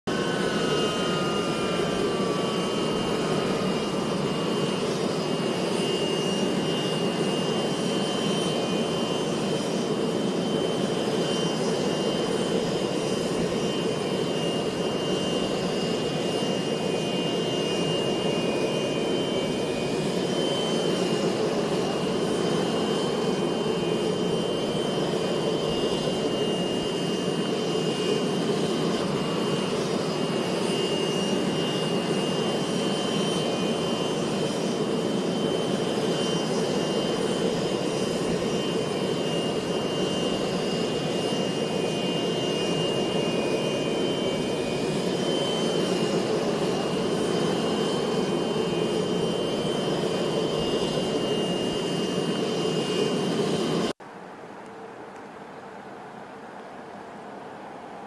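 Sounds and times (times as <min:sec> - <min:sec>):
whining tones gliding down: 0:00.1 - 0:53.9
jet engines running: 0:00.1 - 0:54.0.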